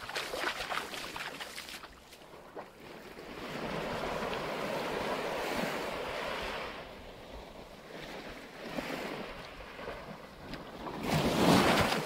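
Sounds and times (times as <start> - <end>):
gentle waves on sandy shore: 0.0 - 12.0.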